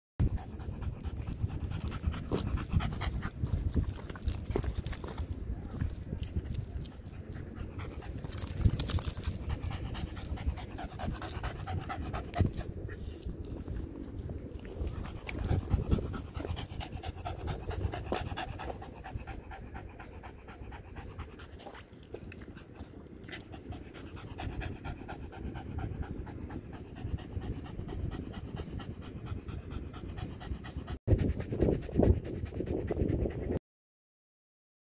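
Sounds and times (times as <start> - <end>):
dog panting rapidly: 0.2 - 5.3, 6.2 - 33.6.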